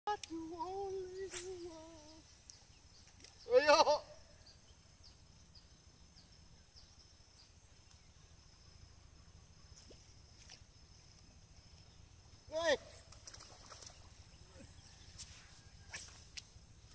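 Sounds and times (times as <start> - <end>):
faint high chirps: 0.1 - 16.9
low steady hum: 0.1 - 16.9.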